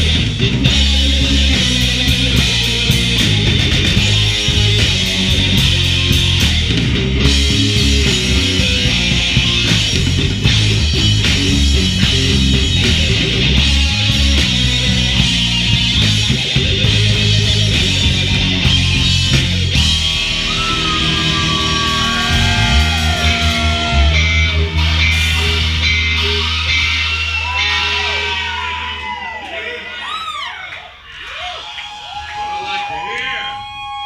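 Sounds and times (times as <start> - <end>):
live rock band playing: 0.0 - 29.2.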